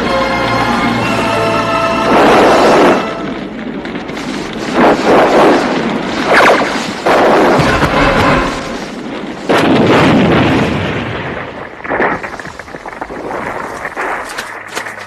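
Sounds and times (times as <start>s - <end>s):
explosive blasts: 2.0s - 14.7s.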